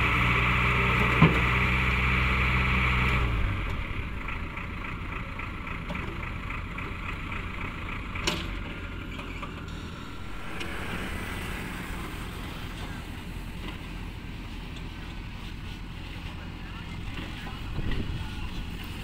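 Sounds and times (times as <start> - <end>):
heavy vehicle engine running: 0.0 - 19.0.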